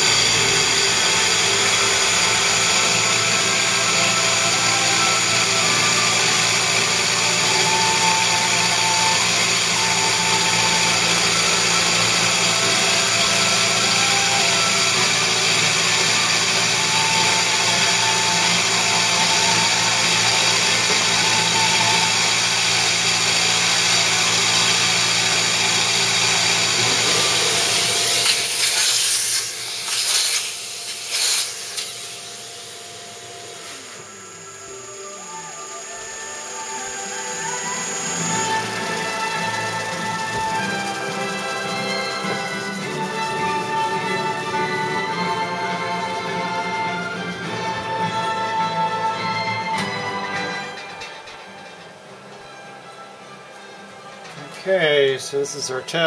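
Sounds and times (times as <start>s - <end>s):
milling machine motor whine: 0.0s - 55.1s.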